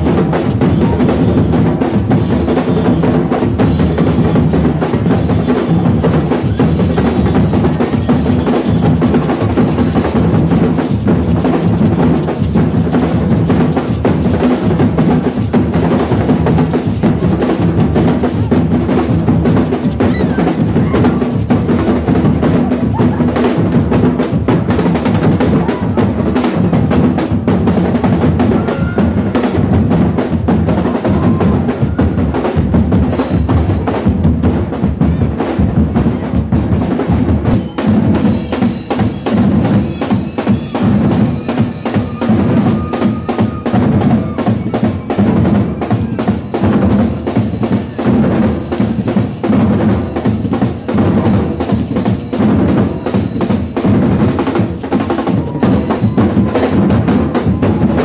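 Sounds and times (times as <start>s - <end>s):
bass and snare drums beating: 0.0s - 58.0s.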